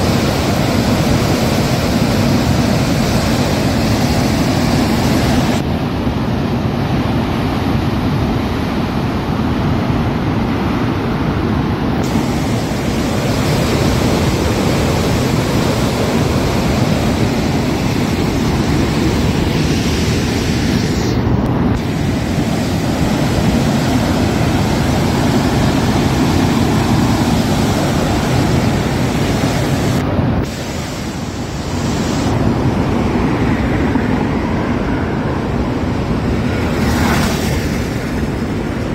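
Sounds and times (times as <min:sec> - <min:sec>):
turbulent water rushing: 0:00.0 - 0:38.9.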